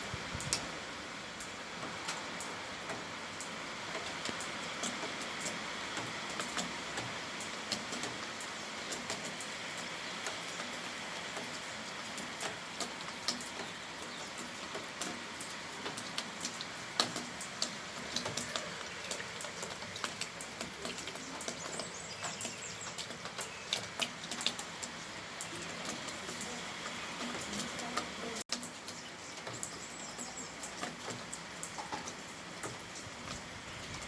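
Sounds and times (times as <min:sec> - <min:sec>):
raindrops ticking: 0:00.0 - 0:34.0
steady rain hissing: 0:00.0 - 0:34.0.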